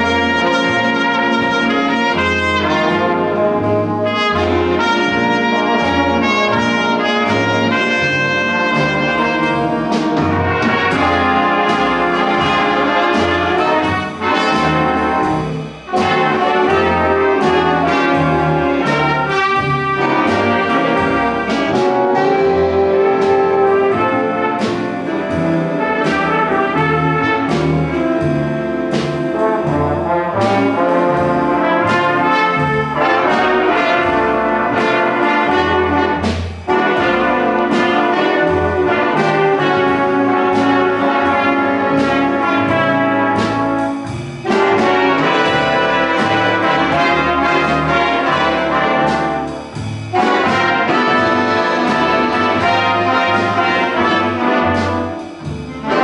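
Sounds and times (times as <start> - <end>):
big band playing swing jazz: 0.0 - 56.0.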